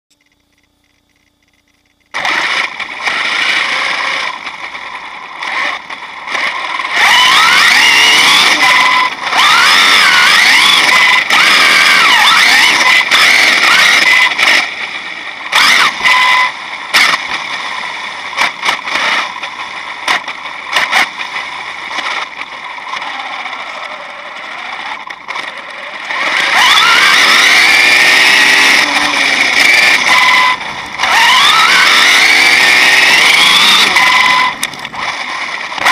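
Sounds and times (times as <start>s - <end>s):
rc truck motor whine: 0.1s - 35.9s.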